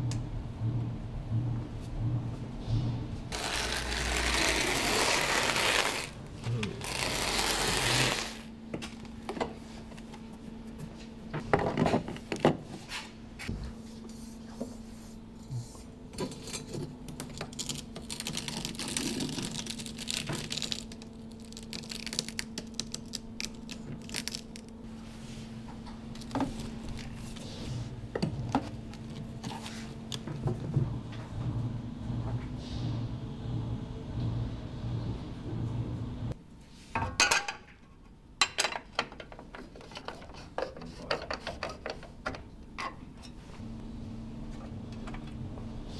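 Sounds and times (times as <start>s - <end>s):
steady low hum: 0.0s - 36.8s, 39.6s - 45.9s.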